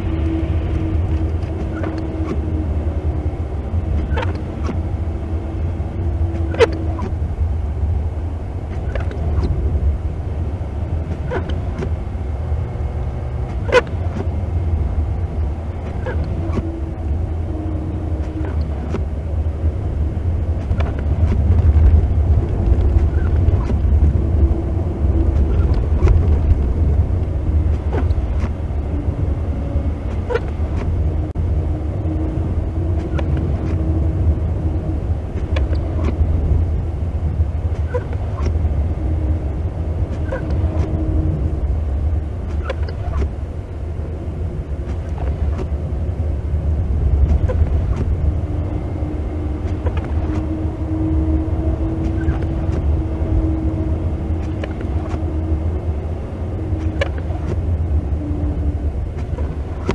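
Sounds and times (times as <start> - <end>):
faint steady hum: 0.0 - 59.9
tyres and engine rumble: 0.0 - 59.9.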